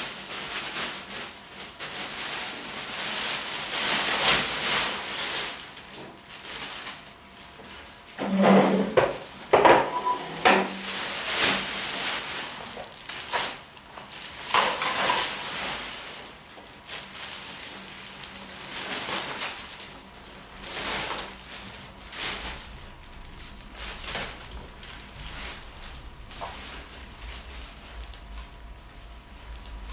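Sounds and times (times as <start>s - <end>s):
plastic bag rustling: 0.0s - 29.9s.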